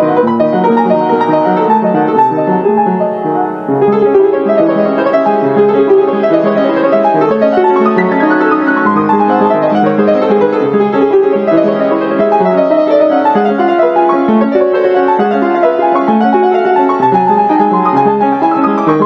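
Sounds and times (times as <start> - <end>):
piano playing: 0.0 - 19.0.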